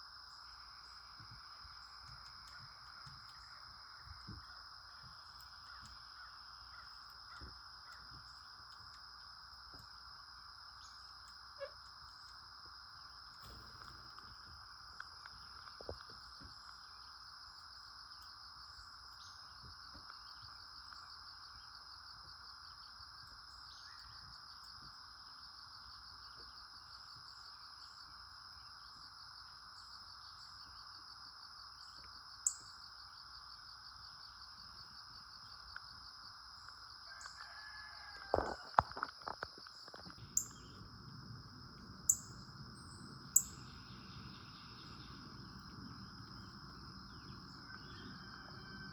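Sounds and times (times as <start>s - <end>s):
low insect buzz: 0.0s - 40.8s
insect chorus trilling: 0.0s - 48.9s.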